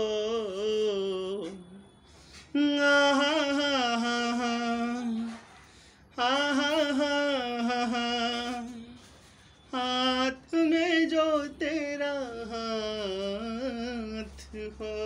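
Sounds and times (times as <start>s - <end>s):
person singing unaccompanied: 0.0s - 15.0s.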